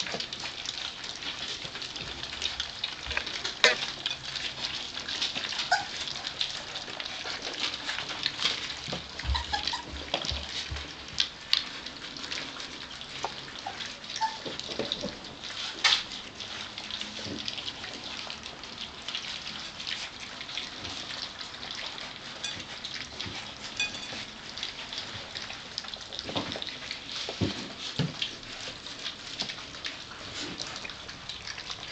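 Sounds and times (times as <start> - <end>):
puppies lapping and chewing: 0.0 - 31.9.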